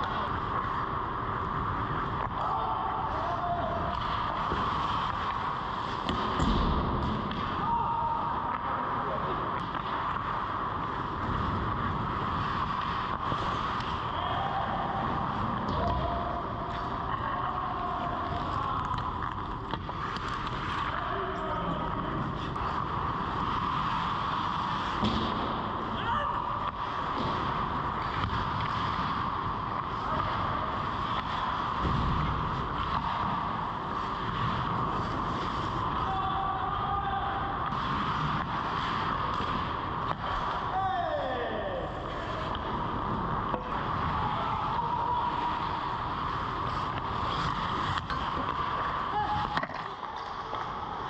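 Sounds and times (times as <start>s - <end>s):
skates scraping on ice: 0.0s - 51.0s
ventilation hum: 0.0s - 51.0s.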